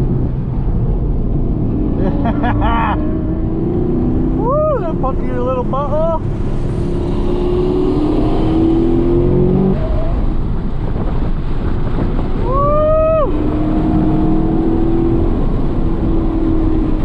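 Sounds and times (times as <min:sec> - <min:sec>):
car engine drone: 0:00.0 - 0:17.0
road and wind noise: 0:00.0 - 0:17.0.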